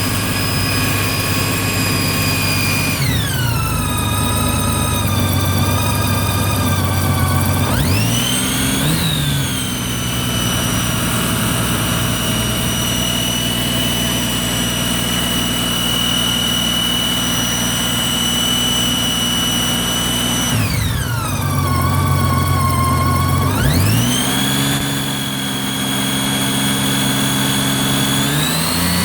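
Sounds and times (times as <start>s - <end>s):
high-pitched whine: 0.0s - 29.0s
motorcycle engine revving: 0.0s - 29.0s.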